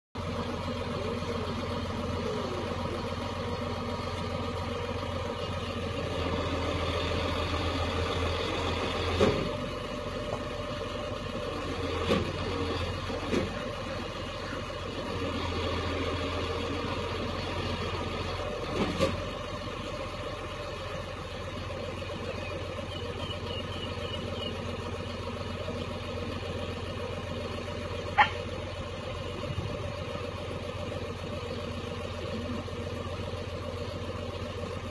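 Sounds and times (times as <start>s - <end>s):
truck engine idling: 0.2s - 34.9s.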